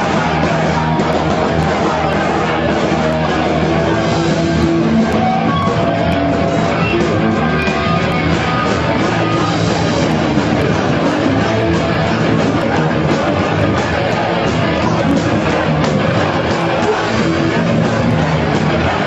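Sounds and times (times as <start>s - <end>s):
rock music with guitar: 0.0s - 19.0s.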